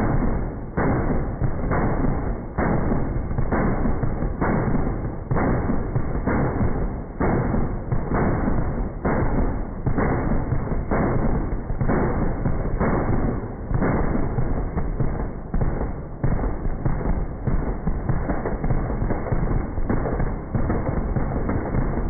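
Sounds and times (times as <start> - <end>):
slowed machine gun booms: 0.0 - 22.0.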